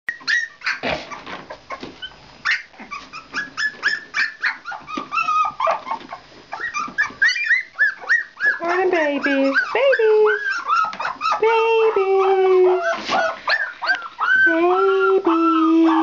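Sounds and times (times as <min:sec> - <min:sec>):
puppies yelping and whining: 0:00.1 - 0:16.0.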